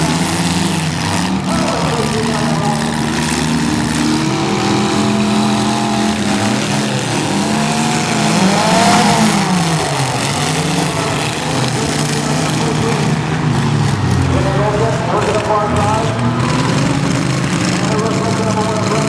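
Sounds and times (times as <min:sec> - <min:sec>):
car engines running and revving: 0:00.0 - 0:19.0.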